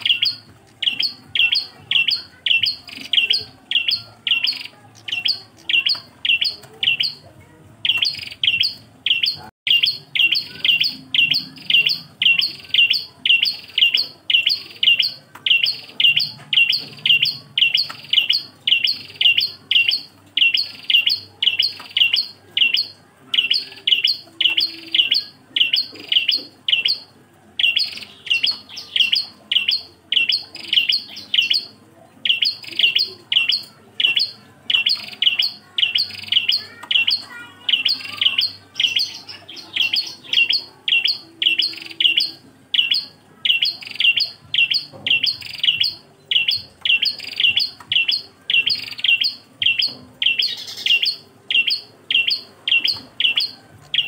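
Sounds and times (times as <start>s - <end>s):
warbler chirping: 0.0s - 54.0s.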